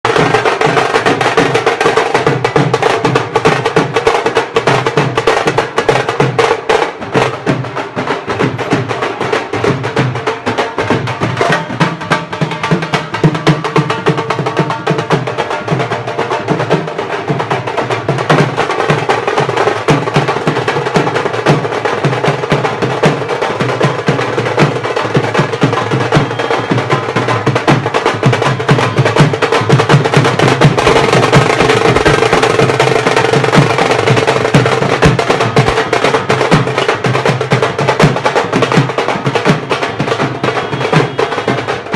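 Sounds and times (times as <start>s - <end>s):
dhol drumming dance beat: 0.0s - 41.9s.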